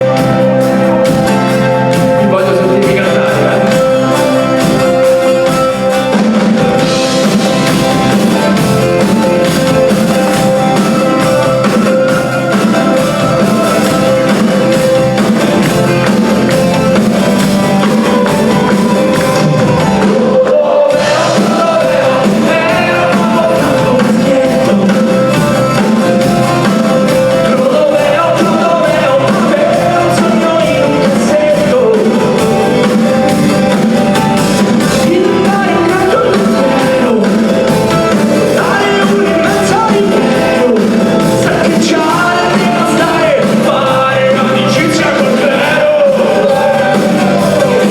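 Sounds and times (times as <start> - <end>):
person singing: 0.0 - 47.9
rock band playing live: 0.0 - 47.9.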